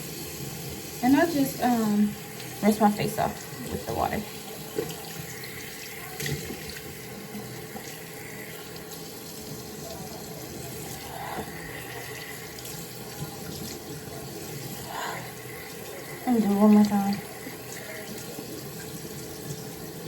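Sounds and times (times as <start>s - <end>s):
sink tap running: 0.0s - 20.0s.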